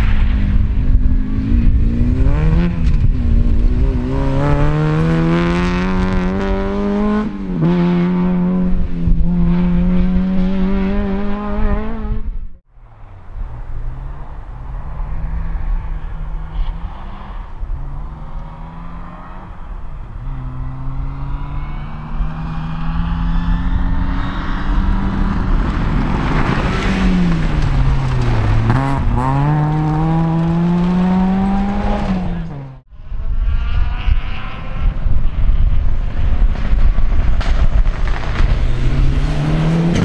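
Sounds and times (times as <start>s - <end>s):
rally car engine at full throttle: 0.0s - 40.0s
second rally car engine: 0.0s - 40.0s.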